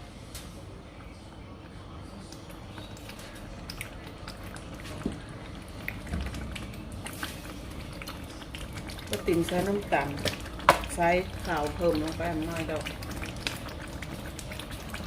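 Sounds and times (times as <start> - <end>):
spatula stirring: 2.8 - 15.0.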